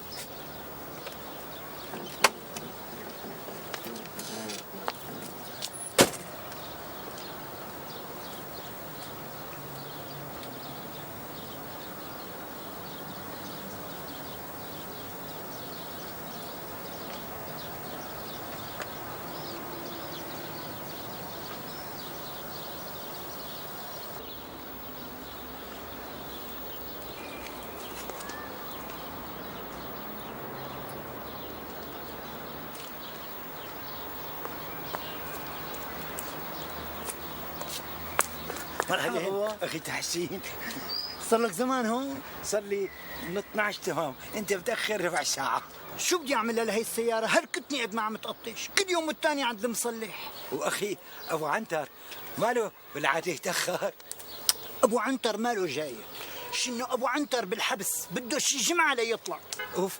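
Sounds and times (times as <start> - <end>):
faint bird chirps: 0.0 - 39.2, 40.1 - 48.6, 49.5 - 57.5
outdoor background noise: 0.0 - 59.9.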